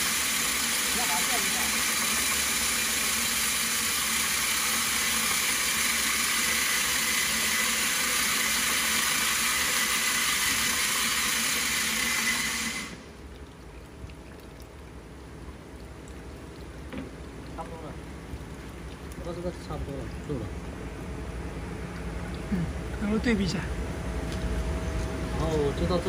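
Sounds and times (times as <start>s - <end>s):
water pouring into drum: 0.0s - 22.3s
low machine hum: 0.0s - 26.0s.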